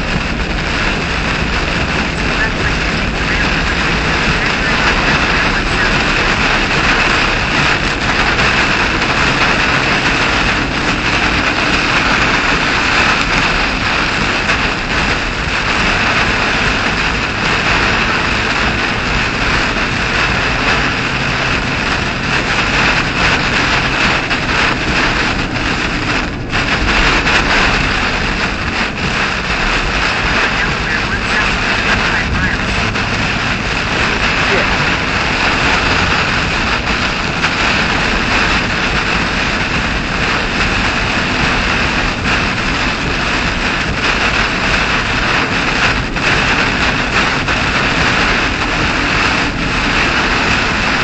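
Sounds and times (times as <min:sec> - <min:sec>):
heavy rain on car roof: 0:00.0 - 0:51.0
tyre noise on wet road: 0:00.0 - 0:51.0.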